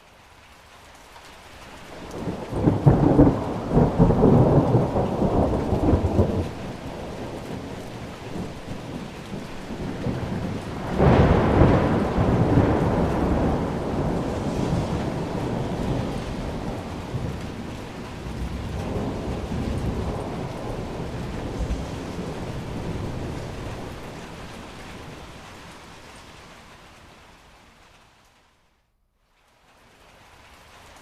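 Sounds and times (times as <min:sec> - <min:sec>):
steady rain: 0:00.0 - 0:31.0
thunder rumbling: 0:01.9 - 0:26.9.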